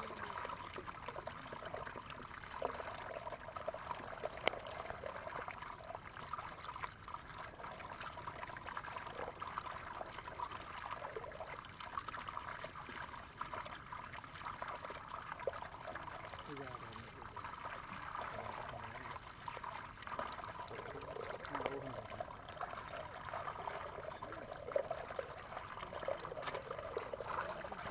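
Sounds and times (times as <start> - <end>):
water trickling and splashing: 0.0 - 27.9.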